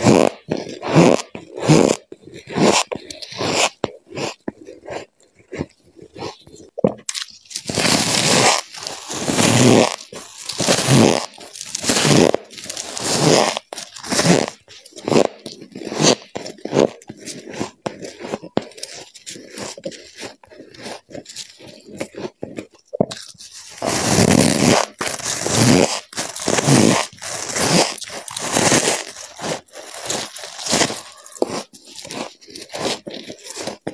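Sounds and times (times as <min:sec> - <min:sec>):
biting and chewing frost: 0:00.0 - 0:33.9.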